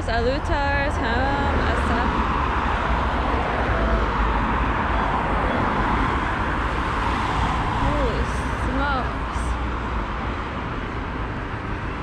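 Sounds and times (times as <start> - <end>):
cars passing on road: 0.0 - 12.0.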